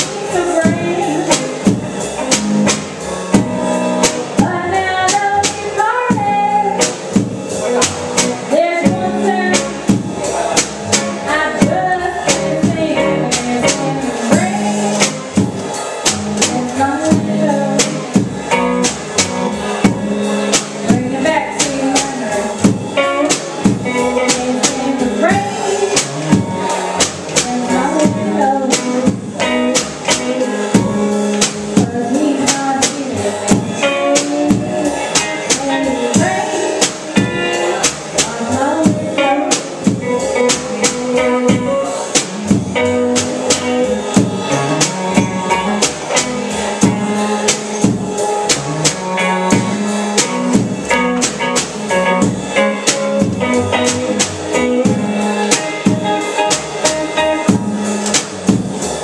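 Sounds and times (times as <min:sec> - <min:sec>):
woman singing into a microphone: 0:00.0 - 0:01.9, 0:04.3 - 0:15.6, 0:16.4 - 0:18.4, 0:20.8 - 0:48.2, 0:49.2 - 0:57.7
drum kit beat: 0:00.0 - 0:59.0
guitar: 0:00.0 - 0:59.0
upright double bass: 0:00.0 - 0:59.0.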